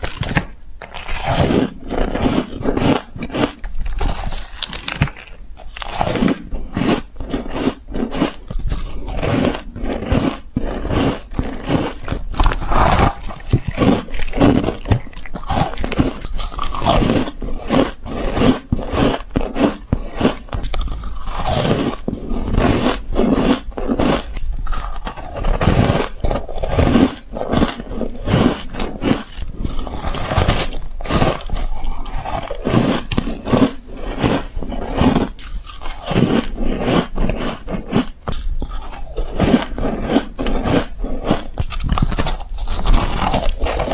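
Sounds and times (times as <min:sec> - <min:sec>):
ice crunching in mouth: 0:00.0 - 0:43.9.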